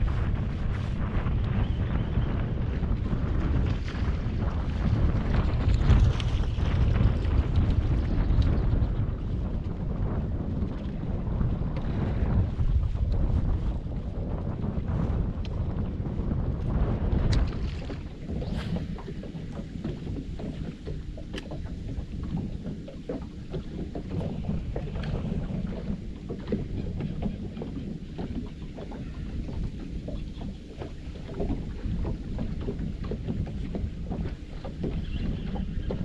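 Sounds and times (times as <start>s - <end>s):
water slapping boat hull: 0.0s - 36.0s
wind buffeting microphone: 0.0s - 36.0s.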